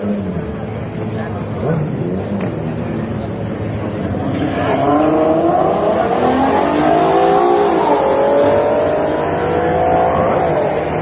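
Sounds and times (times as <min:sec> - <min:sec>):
race car engines accelerating: 0:00.0 - 0:11.0.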